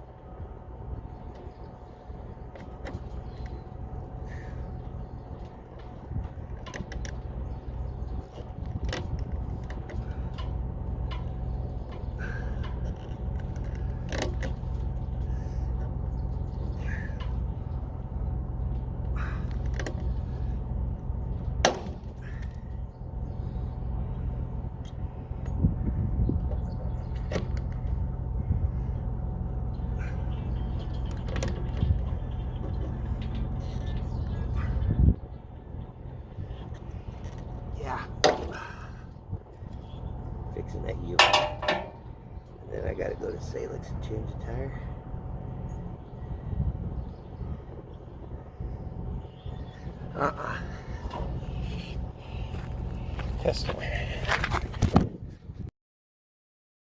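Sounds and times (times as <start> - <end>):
low mechanical hum: 0.0 - 55.7.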